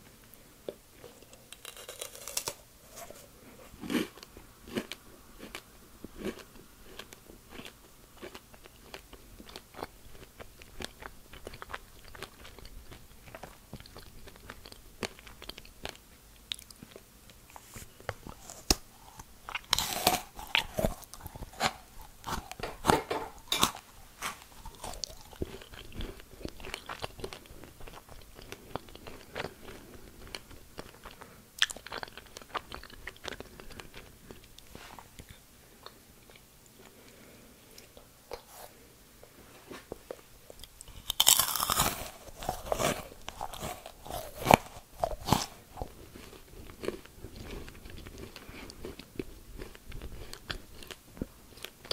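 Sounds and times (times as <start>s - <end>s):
crunching and chewing: 0.7s - 38.7s, 39.7s - 51.9s.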